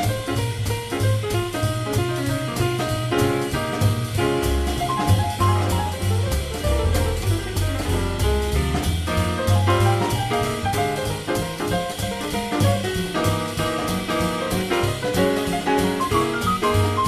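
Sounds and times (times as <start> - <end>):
drum kit cymbals: 0.0 - 17.0
piano chords: 0.0 - 17.0
walking bass line: 0.0 - 17.0.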